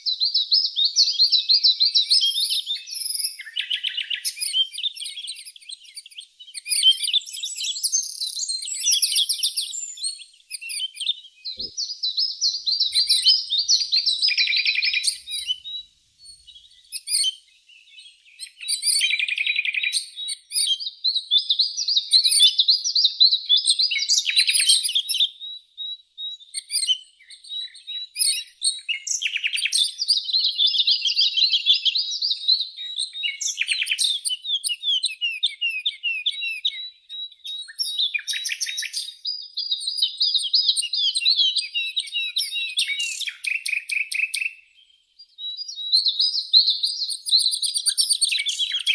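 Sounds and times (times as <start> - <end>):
songbirds warbling: 0.0 - 48.9.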